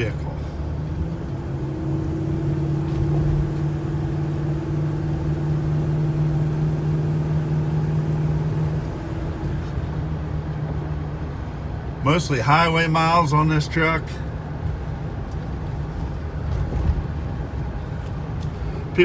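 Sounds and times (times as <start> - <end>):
road rumble: 0.0 - 19.0
truck engine droning: 0.0 - 19.0.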